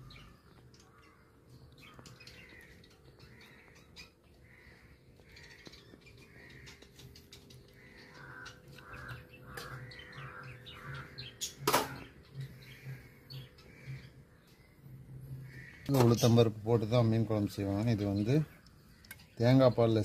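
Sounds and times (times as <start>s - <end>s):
crows cawing: 0.1s - 16.4s.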